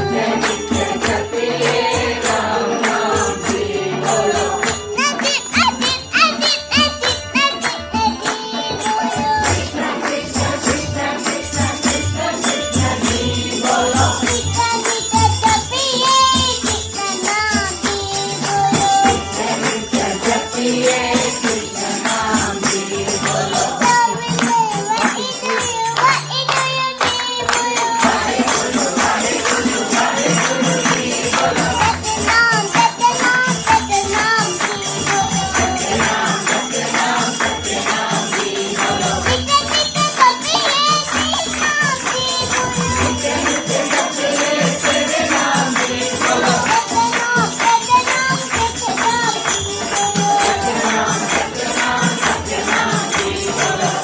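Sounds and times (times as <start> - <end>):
child singing into a microphone: 0.0 - 38.4, 39.0 - 43.8, 44.4 - 54.0
jingling percussion: 0.0 - 54.0.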